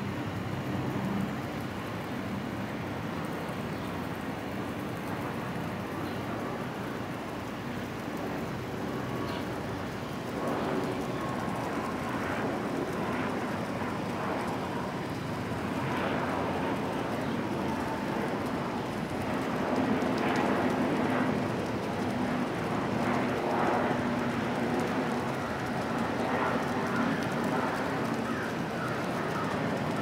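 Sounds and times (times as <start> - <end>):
distant traffic noise: 0.0 - 30.0.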